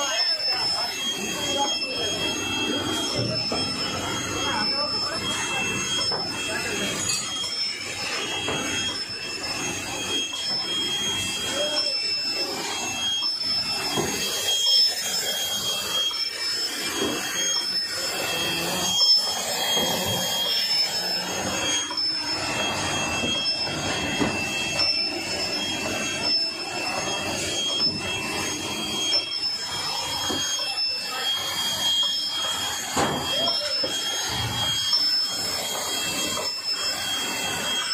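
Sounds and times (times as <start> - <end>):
high-pitched machine whine: 0.0 - 37.9
labeling machine running: 0.0 - 37.9.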